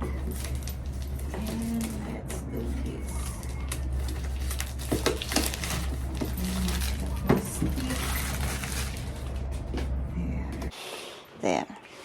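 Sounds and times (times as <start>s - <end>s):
packaging rustling: 0.0s - 10.0s
steady low hum: 0.0s - 10.8s.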